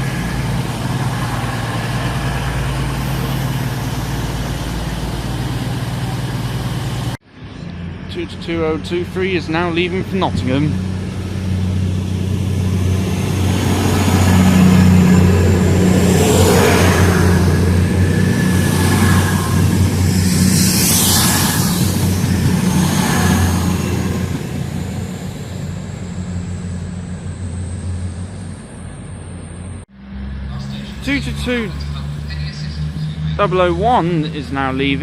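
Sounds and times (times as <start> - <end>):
train wheel noise: 0.0 - 7.2, 8.9 - 29.8
diesel engines droning: 0.0 - 35.0
thin high whine: 0.0 - 35.0.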